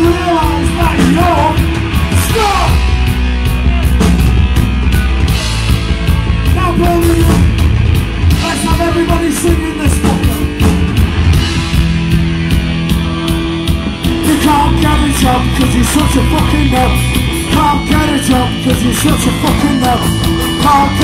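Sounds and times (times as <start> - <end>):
bass guitar: 0.0 - 21.0
distorted electric guitars: 0.0 - 21.0
driving drum kit: 0.0 - 21.0.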